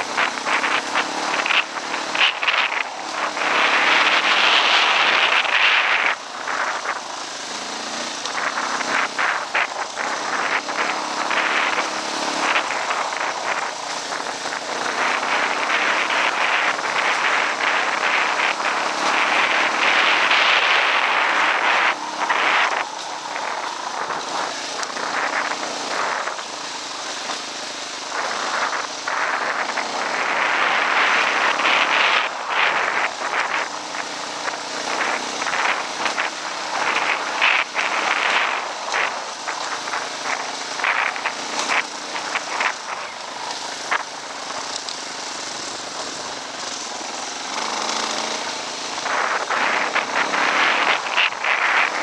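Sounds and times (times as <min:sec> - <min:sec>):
dirt bike engine running: 0:00.0 - 0:52.0
wind noise on microphone: 0:00.0 - 0:52.0.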